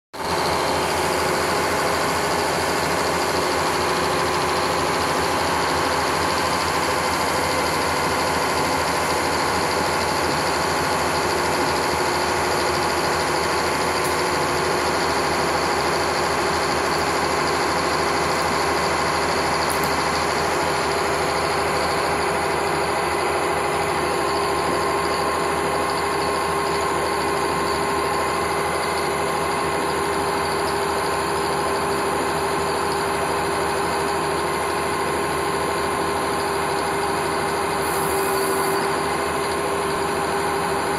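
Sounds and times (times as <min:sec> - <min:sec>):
sawmill motor droning: 0:00.2 - 0:40.9.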